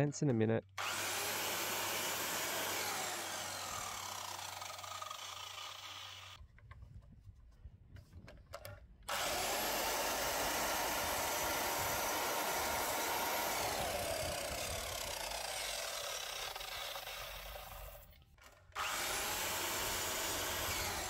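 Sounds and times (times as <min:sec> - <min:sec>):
mitre saw cutting wood: 0:00.8 - 0:06.4, 0:09.1 - 0:21.0.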